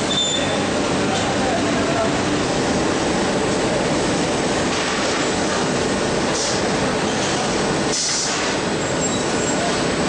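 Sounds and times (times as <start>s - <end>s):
industrial laundry machinery: 0.0s - 10.0s.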